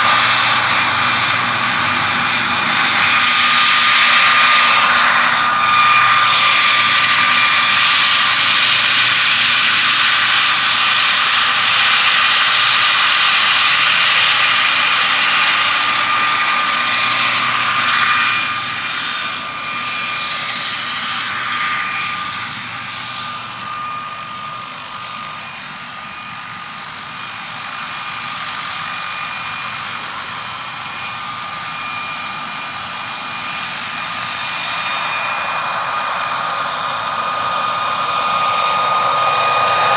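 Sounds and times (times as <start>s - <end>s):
helicopter rotor rush: 0.0s - 39.9s
turbine whine: 0.0s - 39.9s.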